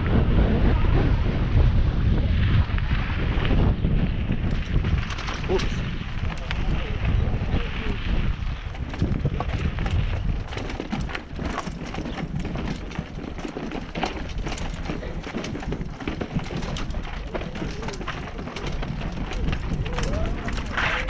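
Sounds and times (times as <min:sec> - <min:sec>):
low rumble: 0:00.0 - 0:21.0
mountain bike rattling over rocks: 0:02.4 - 0:21.0.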